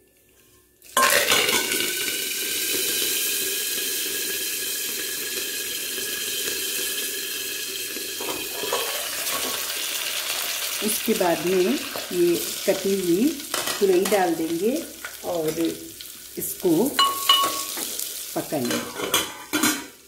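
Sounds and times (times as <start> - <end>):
leaves sizzling in hot oil: 0.1 - 20.0.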